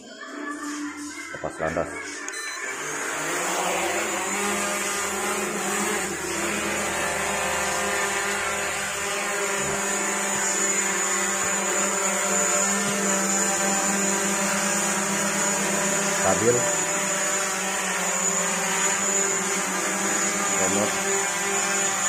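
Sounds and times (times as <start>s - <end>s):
drone propellers whirring: 1.5s - 22.0s.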